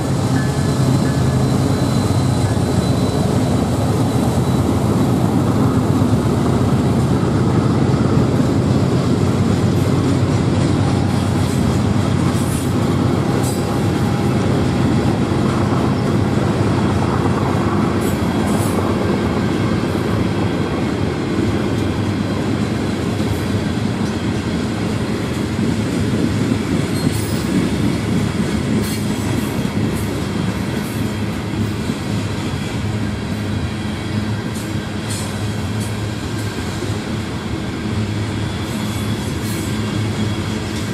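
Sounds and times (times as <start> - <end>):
freight train rolling past: 0.0 - 40.9
wheels squealing on rails: 0.0 - 40.9.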